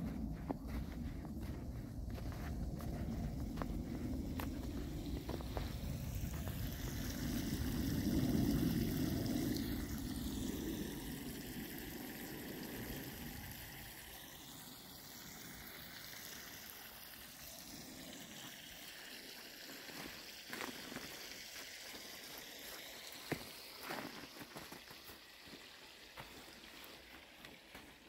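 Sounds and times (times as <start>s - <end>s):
water running: 0.0s - 28.0s.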